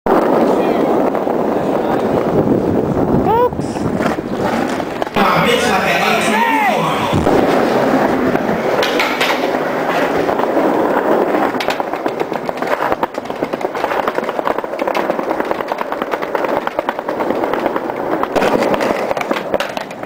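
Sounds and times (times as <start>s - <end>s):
skateboard wheels rolling on sidewalk: 0.0s - 20.0s.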